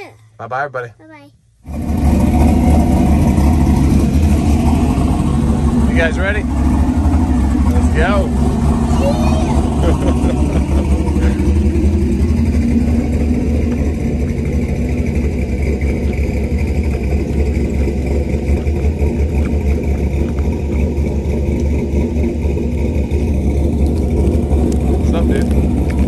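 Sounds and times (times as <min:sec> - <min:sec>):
diesel truck engine idling: 0:01.7 - 0:26.0.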